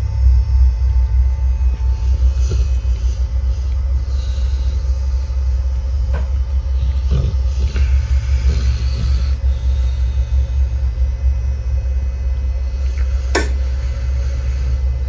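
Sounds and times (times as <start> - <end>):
dog snoring loudly: 1.0 - 15.0.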